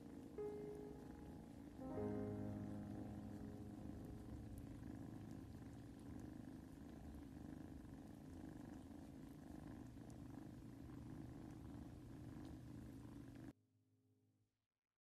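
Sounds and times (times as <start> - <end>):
kitten purring: 0.0 - 13.6.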